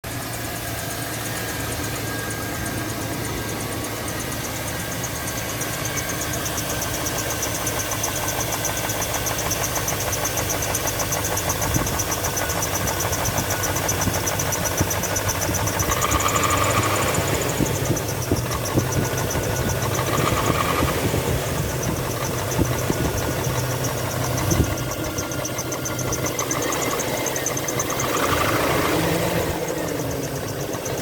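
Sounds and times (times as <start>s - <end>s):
car engine idling: 0.0s - 31.0s
fast even lifter ticking: 0.1s - 31.0s.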